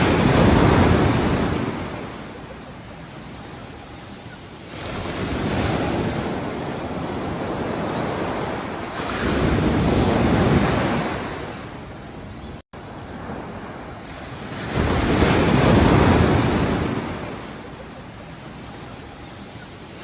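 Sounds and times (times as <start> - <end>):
ocean waves surging: 0.0 - 20.0.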